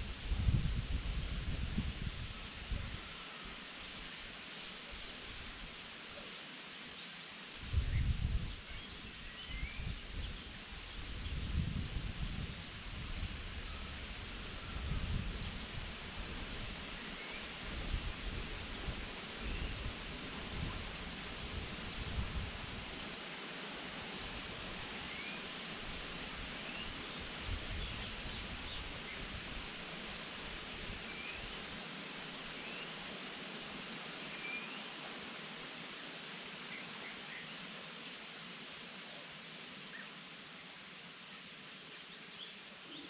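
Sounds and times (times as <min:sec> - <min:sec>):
steady forest hiss: 0:00.0 - 0:43.0.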